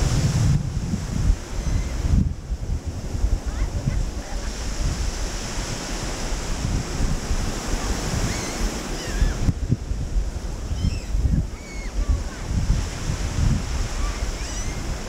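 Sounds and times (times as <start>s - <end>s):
small waves washing on sand: 0.0s - 15.0s
wind buffeting microphone: 0.0s - 15.0s.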